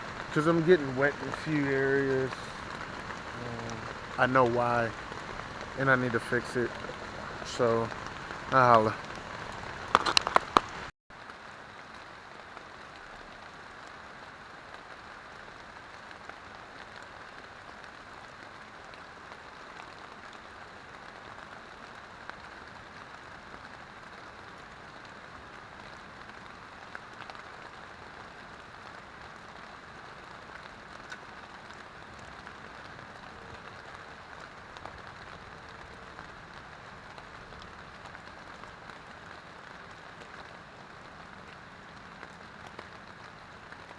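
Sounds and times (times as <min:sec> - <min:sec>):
rain falling on a tent: 0:00.0 - 0:43.9.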